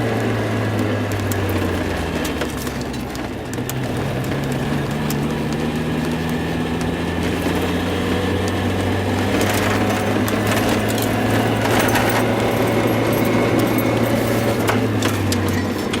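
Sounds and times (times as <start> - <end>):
car engine running with misfire: 0.0 - 16.0
sharp engine ticks: 0.0 - 16.0.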